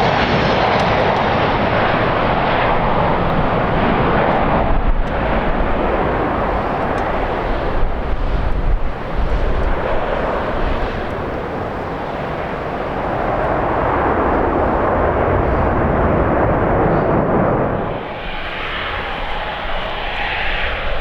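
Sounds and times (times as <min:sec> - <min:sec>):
jet airliner engines rushing: 0:00.0 - 0:21.0
wind rumbling on microphone: 0:00.0 - 0:21.0.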